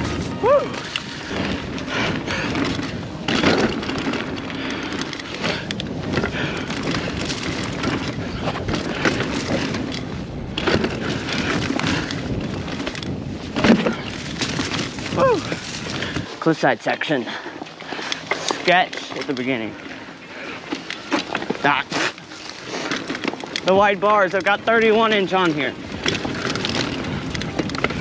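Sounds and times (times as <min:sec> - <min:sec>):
bike knocks and rattles: 0:00.0 - 0:16.3, 0:17.5 - 0:28.0
bike tyre noise on dirt: 0:00.0 - 0:28.0.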